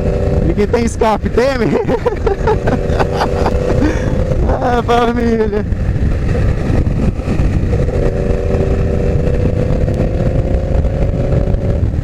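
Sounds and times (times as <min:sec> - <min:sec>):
motorcycle engine cruising: 0:00.0 - 0:12.0
rush of riding noise: 0:00.0 - 0:12.0.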